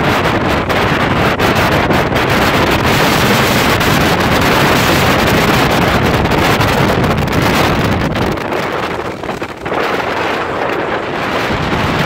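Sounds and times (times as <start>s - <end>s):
boat moving through water: 0.0s - 12.0s
wind rushing over microphone: 0.0s - 12.0s.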